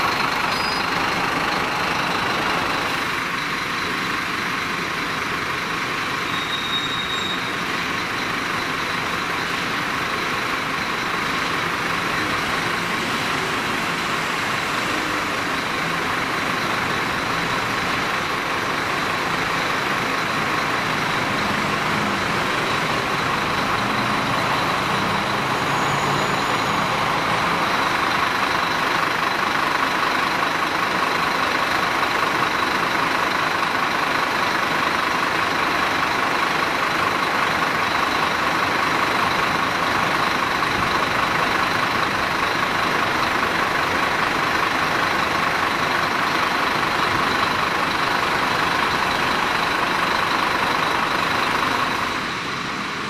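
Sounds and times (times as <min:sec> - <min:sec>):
vehicle engine drone: 0:00.0 - 0:53.0.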